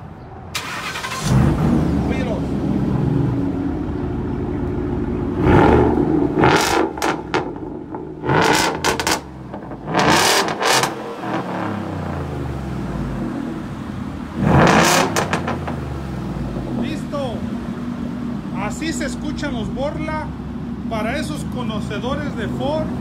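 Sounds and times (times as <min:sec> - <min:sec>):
truck engine idling and revving: 0:00.0 - 0:23.0.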